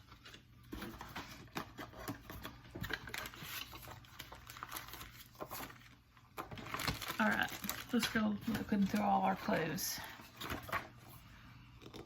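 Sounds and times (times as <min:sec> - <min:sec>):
paper and card rustling: 0:00.0 - 0:11.4.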